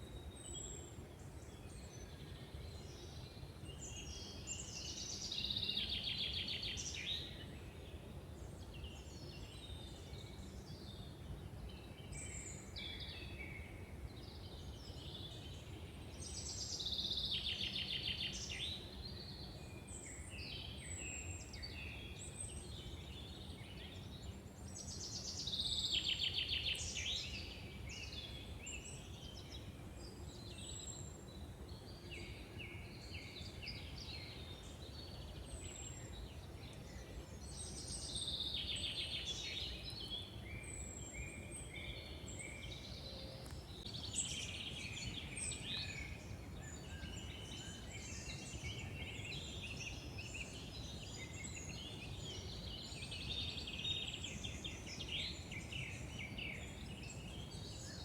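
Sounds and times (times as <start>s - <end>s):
woodland birds singing: 0.0s - 58.0s.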